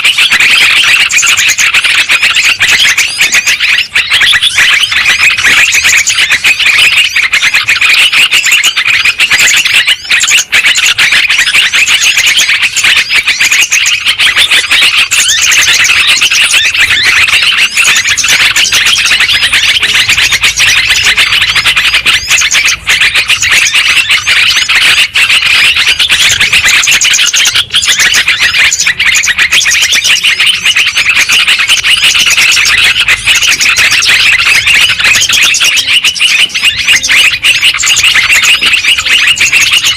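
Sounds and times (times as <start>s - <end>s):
chorus of bulbul chirps: 0.0s - 39.9s.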